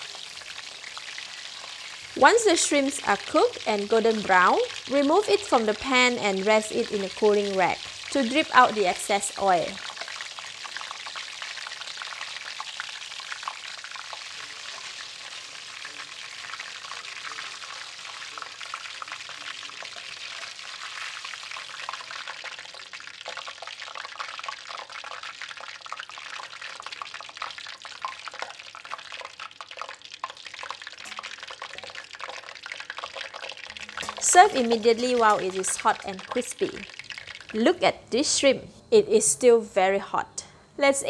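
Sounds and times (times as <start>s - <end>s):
shrimp deep-frying in oil: 0.0s - 38.5s.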